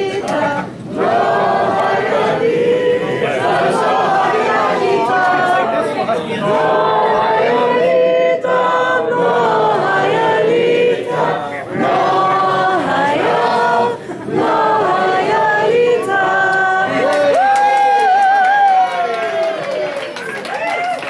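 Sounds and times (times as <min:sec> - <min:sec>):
group singing in chorus: 0:00.0 - 0:17.4.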